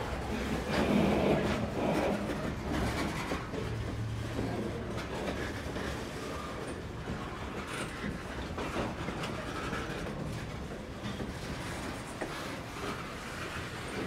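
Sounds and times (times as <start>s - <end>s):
clicks and clacks of wheels: 0.0s - 14.0s
train wheels rumbling on rail: 0.0s - 14.0s.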